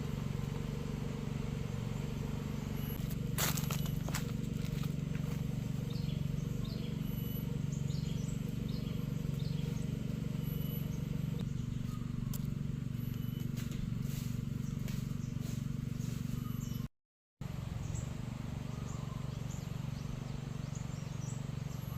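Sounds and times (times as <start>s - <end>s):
bird chirping: 1.0s - 13.7s, 14.5s - 16.9s, 17.7s - 21.9s.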